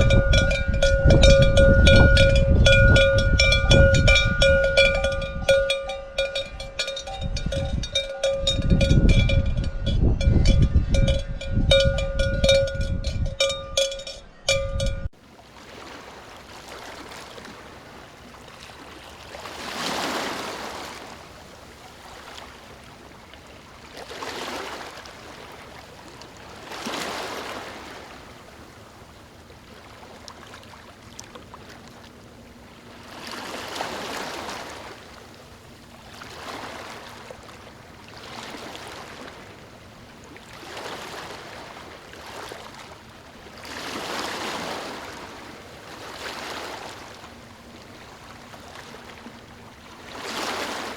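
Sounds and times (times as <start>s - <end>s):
waves washing in: 0.0s - 13.9s, 15.3s - 50.9s.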